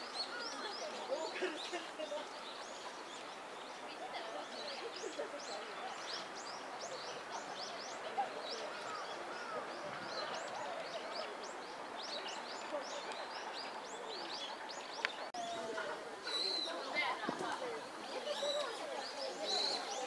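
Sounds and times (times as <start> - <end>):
faint murmur of voices: 0.0 - 20.0
small birds chirping: 0.0 - 20.0.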